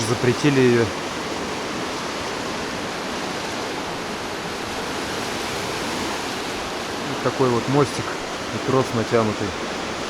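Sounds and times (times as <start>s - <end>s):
river rushing over rapids: 0.0s - 10.0s.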